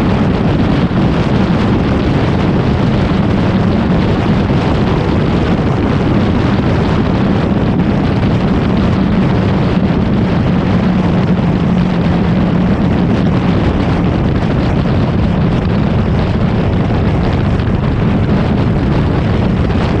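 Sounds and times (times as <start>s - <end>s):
motorcycle engine cruising: 0.0s - 20.0s
wind rushing over microphone: 0.0s - 20.0s.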